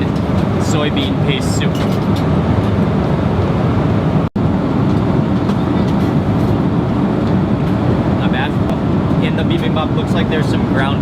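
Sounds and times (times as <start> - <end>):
airliner engine and airflow rumble: 0.0 - 11.0.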